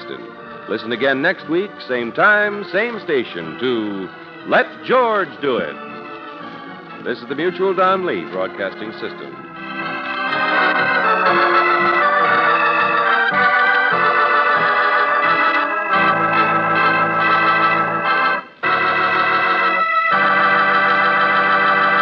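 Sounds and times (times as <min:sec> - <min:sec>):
organ chords: 0:00.0 - 0:22.0.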